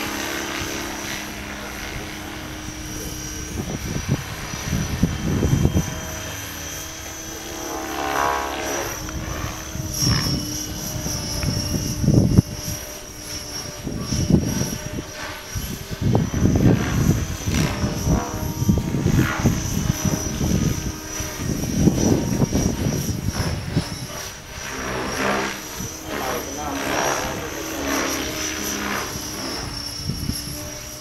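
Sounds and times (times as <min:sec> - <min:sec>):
model helicopter high whine: 0:00.0 - 0:31.0.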